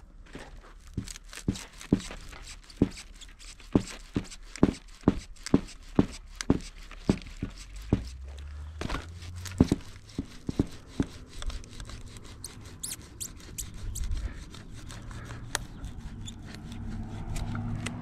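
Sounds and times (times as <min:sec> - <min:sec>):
wood creaking and cracking on blade: 0:00.0 - 0:18.0.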